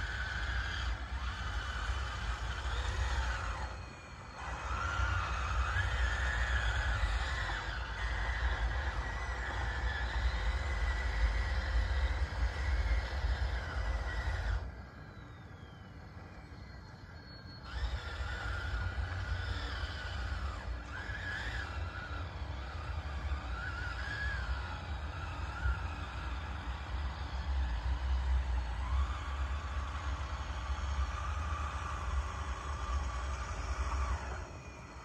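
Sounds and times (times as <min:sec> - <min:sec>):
toy bulldozer motor whining: 0:00.0 - 0:35.0.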